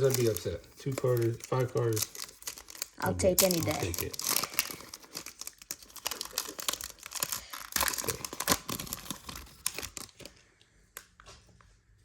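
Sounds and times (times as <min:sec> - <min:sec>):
card pack wrapper tearing: 0:00.0 - 0:10.3.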